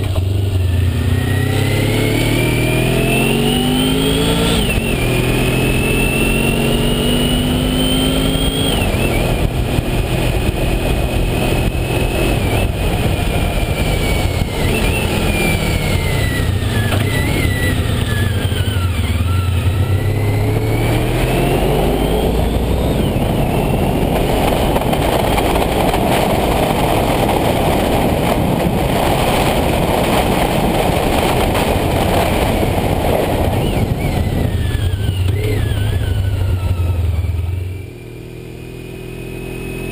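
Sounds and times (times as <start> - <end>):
wind rush: 0.0 - 37.7
motorcycle engine whine: 0.0 - 39.9.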